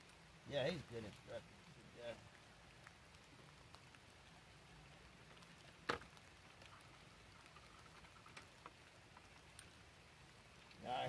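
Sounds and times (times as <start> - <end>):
light rain patter: 0.0 - 11.0.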